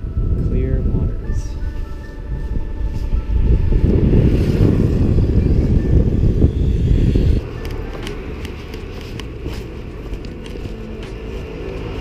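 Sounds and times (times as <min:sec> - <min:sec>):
street ambience: 0:00.0 - 0:12.0
traffic rumble: 0:00.0 - 0:12.0
wind rumble on microphone: 0:00.0 - 0:12.0.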